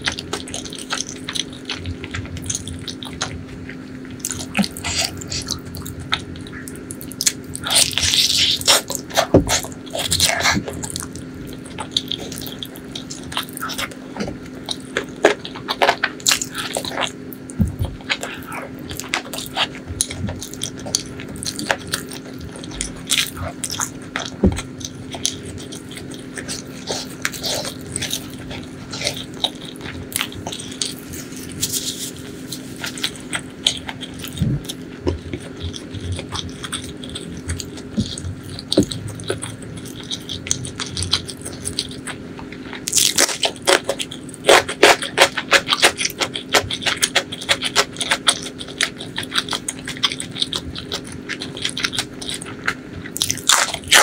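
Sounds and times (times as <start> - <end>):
close chewing with wet mouth clicks: 0.0 - 54.0.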